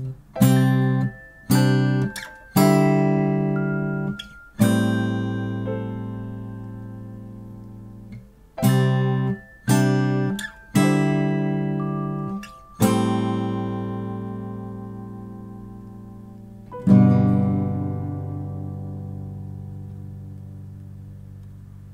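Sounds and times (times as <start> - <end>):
acoustic guitar chords strummed: 0.0 - 21.9.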